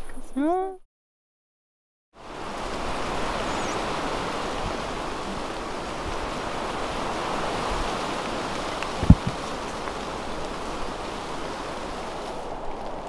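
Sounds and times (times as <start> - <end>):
rain falling on leaves: 2.2 - 13.0.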